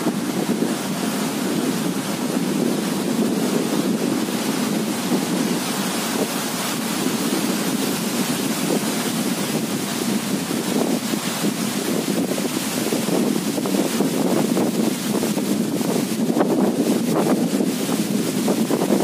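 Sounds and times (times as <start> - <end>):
strong wind through trees: 0.0 - 19.0
wind buffeting the microphone: 0.0 - 19.0.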